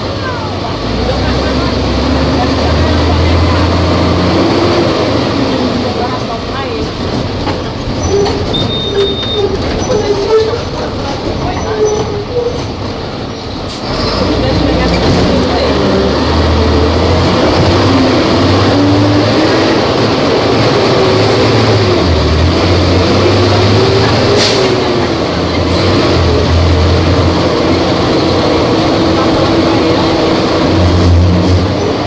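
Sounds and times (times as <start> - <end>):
bus engine running: 0.0 - 32.0.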